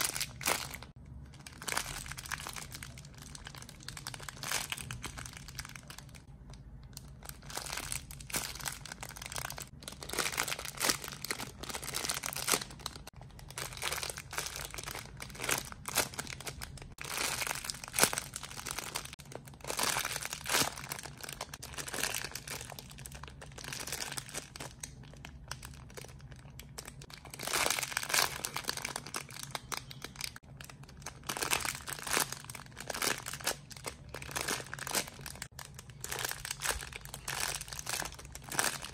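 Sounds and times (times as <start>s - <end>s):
plastic wrapping crinkling: 0.0s - 38.9s.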